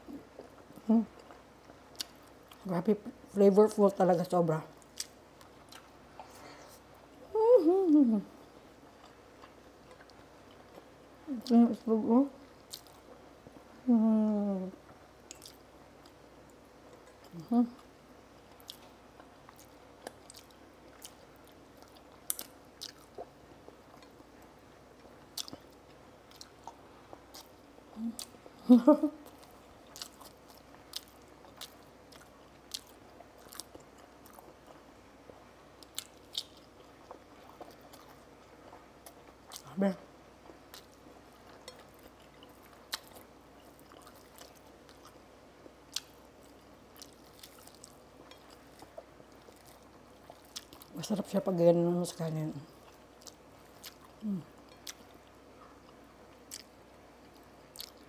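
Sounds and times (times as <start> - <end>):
person chewing food: 0.0 - 2.6, 4.8 - 7.0, 8.7 - 11.6, 12.6 - 13.6, 14.8 - 28.6, 29.2 - 39.7, 40.3 - 51.0, 52.7 - 58.0.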